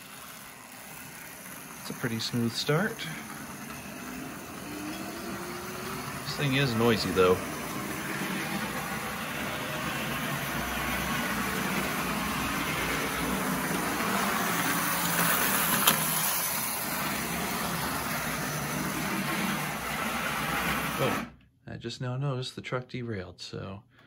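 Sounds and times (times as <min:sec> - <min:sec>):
model locomotive whirring: 0:00.0 - 0:21.4.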